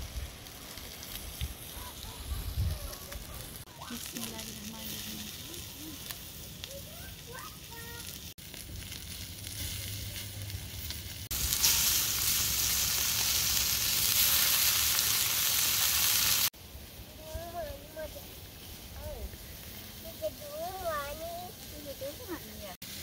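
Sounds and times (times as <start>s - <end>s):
steak sizzling: 0.0s - 23.0s.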